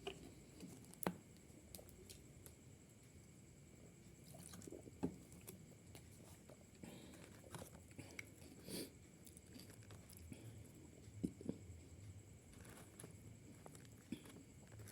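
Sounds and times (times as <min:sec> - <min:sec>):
faint chewing and eating: 0:00.0 - 0:14.9.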